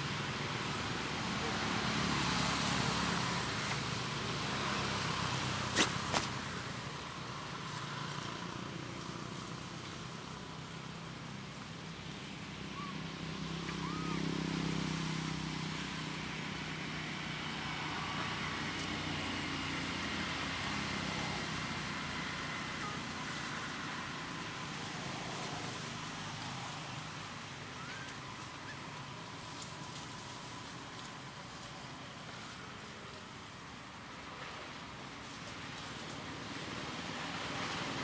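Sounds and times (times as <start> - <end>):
low engine-like hum: 0.0 - 38.0.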